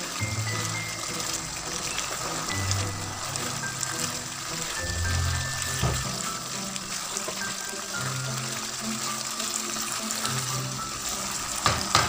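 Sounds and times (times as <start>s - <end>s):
background music with low bass: 0.0s - 11.7s
meat sizzling in a pan: 0.0s - 12.0s.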